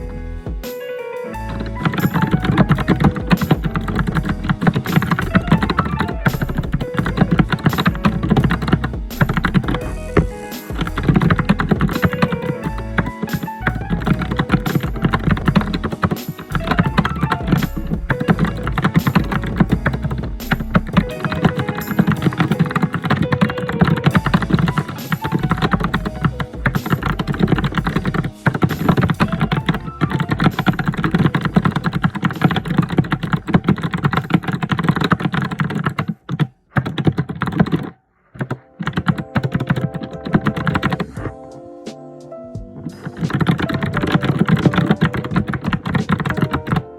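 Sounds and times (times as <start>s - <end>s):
typing on computer keyboard: 1.5s - 9.8s, 10.7s - 41.2s, 42.8s - 46.9s.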